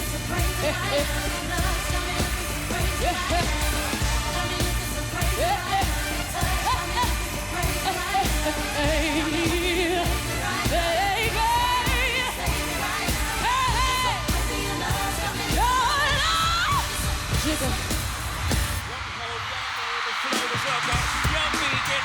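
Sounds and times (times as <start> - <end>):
woman singing wordless runs: 0.0 - 18.4
pop beat with pulsing bass: 0.0 - 22.0.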